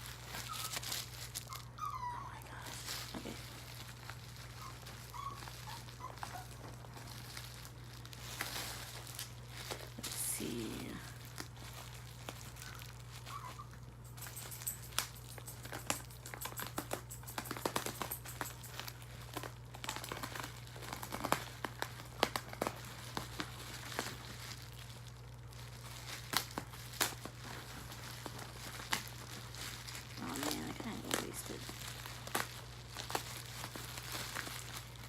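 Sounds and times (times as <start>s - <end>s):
packaging crinkling and rustling: 0.0s - 35.0s.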